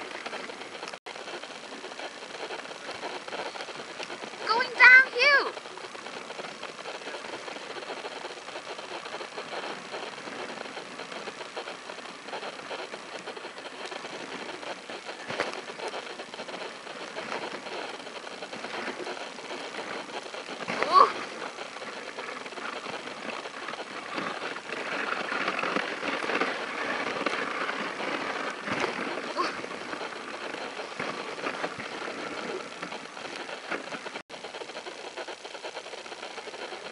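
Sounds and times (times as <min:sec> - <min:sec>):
sled runners scraping over snow: 0:00.0 - 0:36.9.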